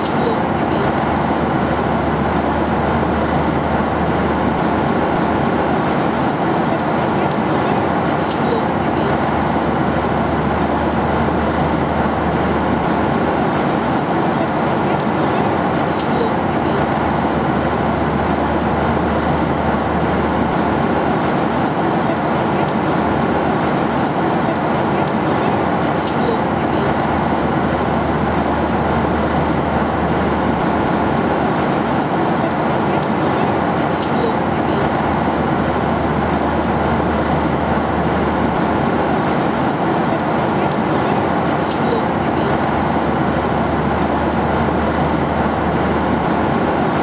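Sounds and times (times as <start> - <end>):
airflow and engine noise: 0.0 - 47.0.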